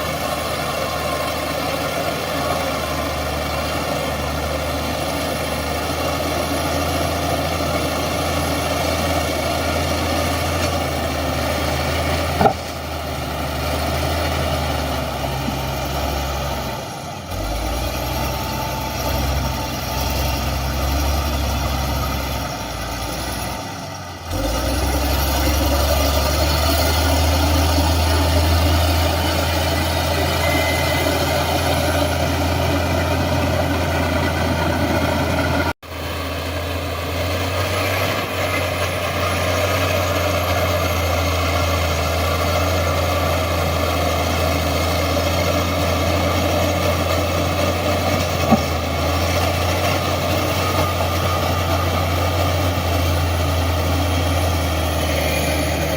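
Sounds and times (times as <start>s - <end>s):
diesel engine deep hum: 0.0s - 55.9s.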